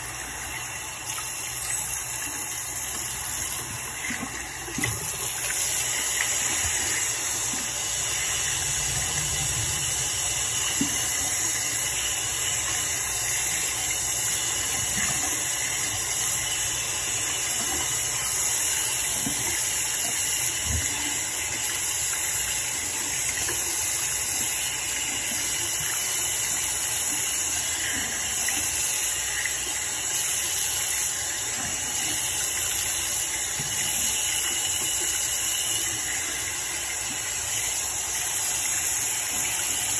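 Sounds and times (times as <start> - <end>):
faucet water running: 0.0 - 39.9.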